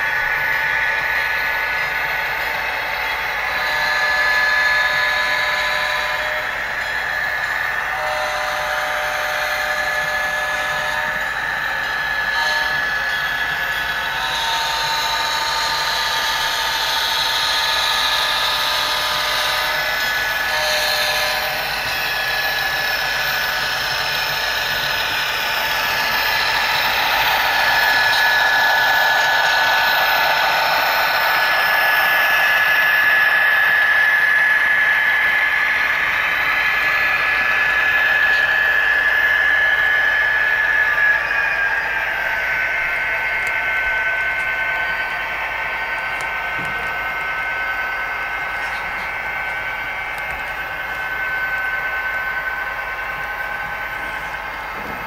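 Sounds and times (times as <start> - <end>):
tinny diesel engine drone: 0.0 - 55.0.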